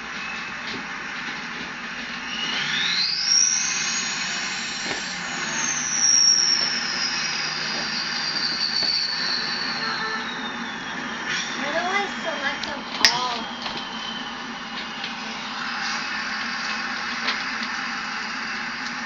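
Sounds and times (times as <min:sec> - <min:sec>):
turbo whistle: 0:00.0 - 0:00.8, 0:02.1 - 0:19.0
diesel engine running: 0:00.0 - 0:19.0.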